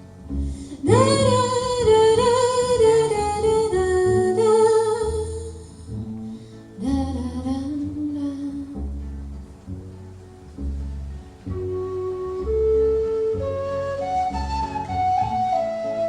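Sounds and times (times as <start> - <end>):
acoustic guitar: 0.0 - 16.0
sustained melody line: 0.0 - 16.0.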